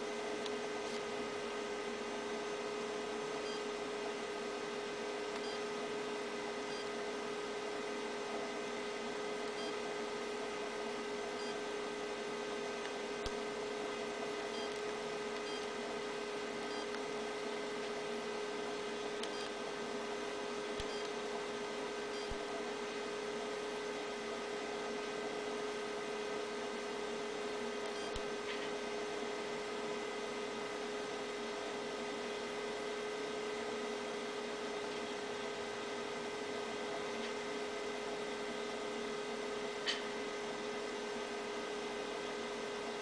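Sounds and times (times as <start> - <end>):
electrical hum and hiss: 0.0 - 43.0.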